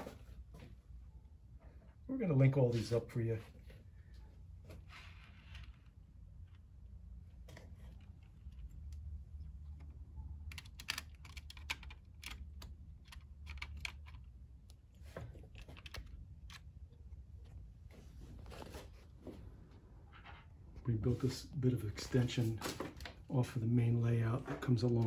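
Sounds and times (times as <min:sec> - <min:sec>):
low steady hum: 0:00.1 - 0:25.0.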